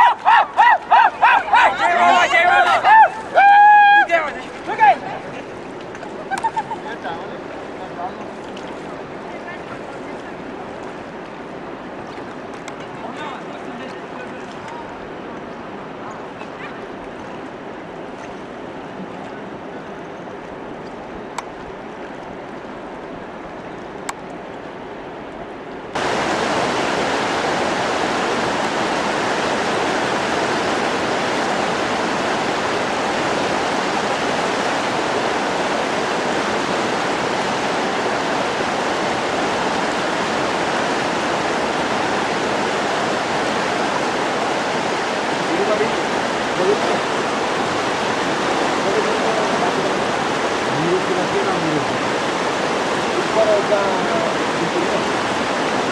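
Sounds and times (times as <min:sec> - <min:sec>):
rushing river whitewater: 0:00.0 - 0:55.9.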